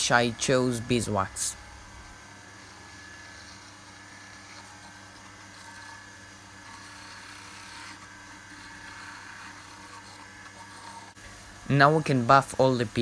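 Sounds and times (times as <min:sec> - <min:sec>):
wood lathe motor hum: 0:00.0 - 0:13.0.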